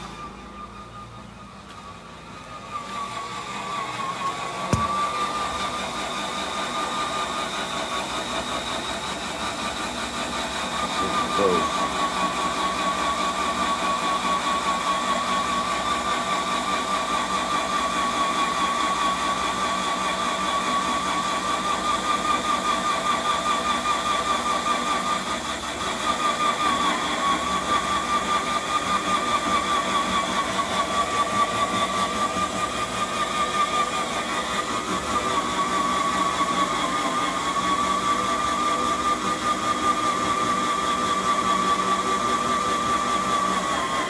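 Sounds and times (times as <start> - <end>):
core drill whining through concrete: 0.0 - 44.0.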